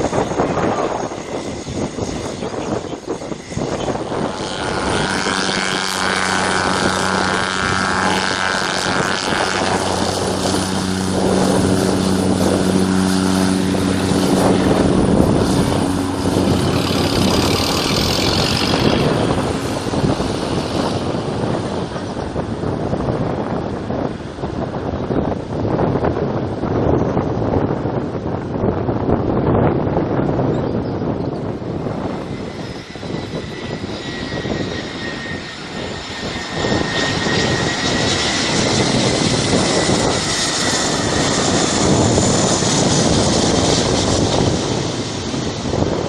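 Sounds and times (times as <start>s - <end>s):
turbine whine: 0.0s - 46.0s
turboprop plane droning: 0.0s - 46.0s.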